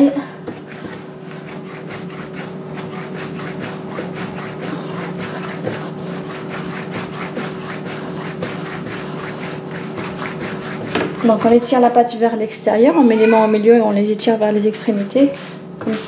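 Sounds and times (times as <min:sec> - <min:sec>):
hands rubbing dough on worktop: 0:00.0 - 0:12.2, 0:14.2 - 0:16.0
steady low hum: 0:00.0 - 0:16.0.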